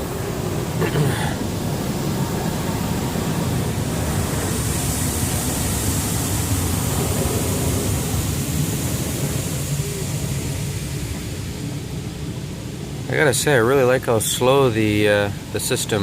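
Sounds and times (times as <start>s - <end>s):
water spray hissing on car: 0.0s - 16.0s.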